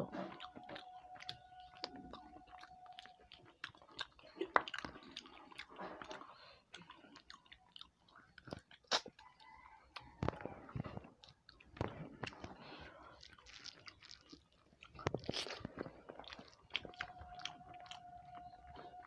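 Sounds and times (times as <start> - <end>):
person chewing with wet mouth sounds: 0.0 - 19.0.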